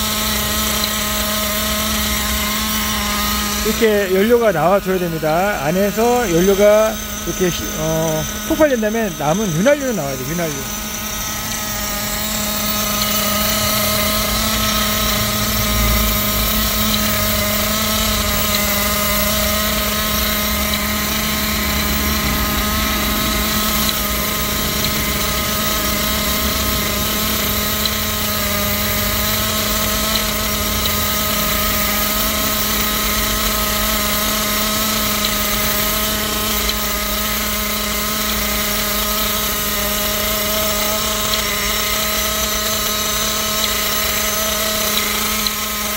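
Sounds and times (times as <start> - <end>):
small model engine idling: 0.0 - 45.9.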